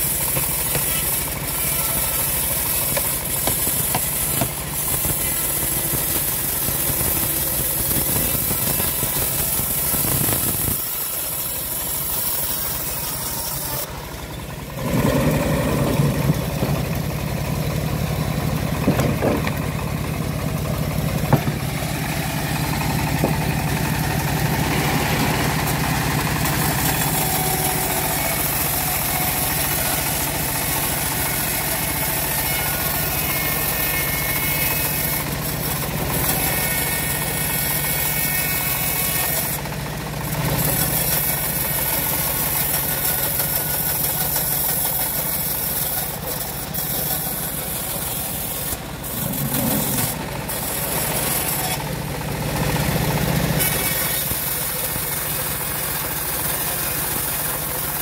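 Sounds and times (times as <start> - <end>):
bandsaw sawing through log: 0.0 - 14.1, 14.7 - 58.0.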